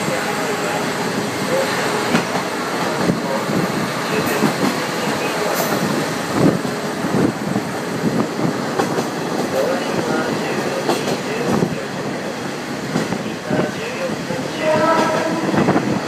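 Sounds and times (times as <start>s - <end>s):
rail rumble: 0.0s - 16.0s.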